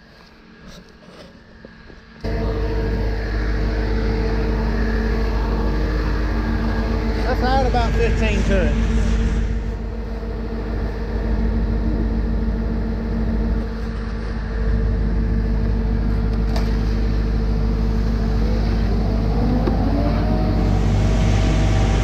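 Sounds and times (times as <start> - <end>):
diesel engines running: 2.1 - 22.0.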